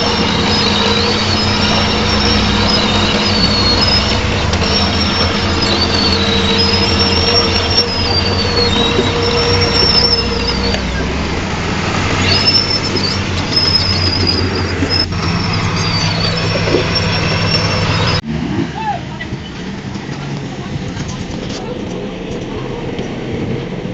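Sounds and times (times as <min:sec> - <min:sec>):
crawler tracks squealing: 0:00.0 - 0:23.9
diesel engine running: 0:00.0 - 0:23.9.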